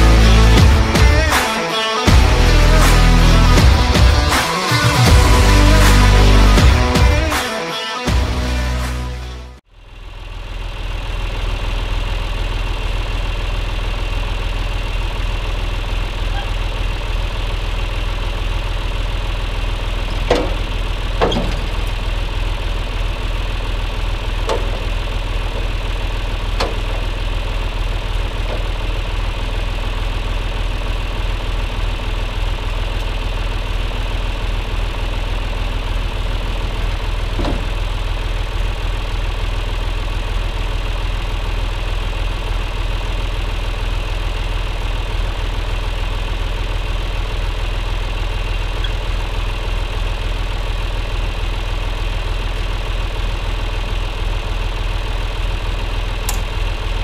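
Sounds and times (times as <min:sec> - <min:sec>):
tractor diesel engine idling: 0:00.0 - 0:07.4, 0:08.1 - 0:57.0.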